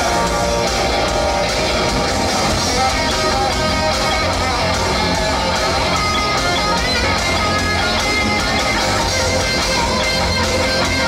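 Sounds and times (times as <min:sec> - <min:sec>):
loud rock music in arena: 0:00.0 - 0:11.0.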